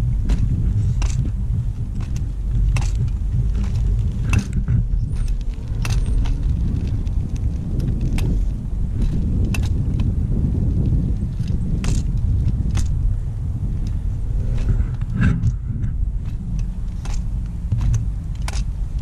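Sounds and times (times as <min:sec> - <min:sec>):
sharp clicks and metallic rattles: 0:00.0 - 0:19.0
skate wheels rolling on asphalt: 0:00.0 - 0:19.0.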